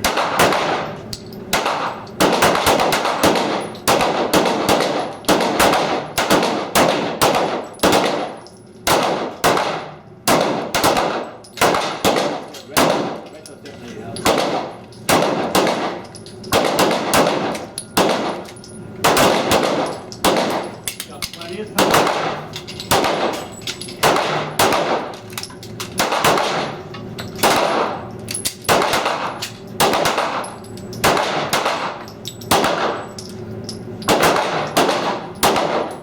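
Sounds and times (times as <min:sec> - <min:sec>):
handgun shots: 0:00.0 - 0:13.2, 0:14.3 - 0:18.4, 0:19.0 - 0:21.1, 0:21.8 - 0:26.8, 0:27.4 - 0:33.0, 0:34.1 - 0:36.0.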